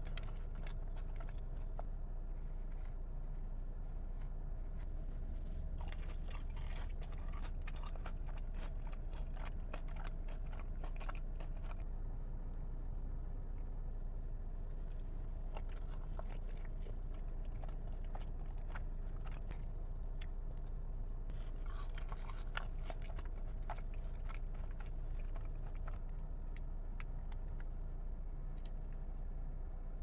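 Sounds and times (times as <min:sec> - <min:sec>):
person chewing food: 0:00.0 - 0:11.9, 0:14.6 - 0:27.8
steady low hum: 0:00.0 - 0:30.0.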